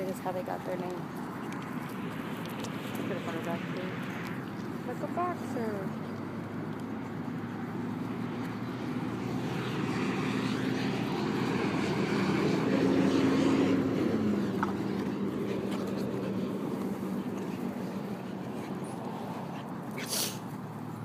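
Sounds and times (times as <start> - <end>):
passing engine drone: 0.0 - 21.0.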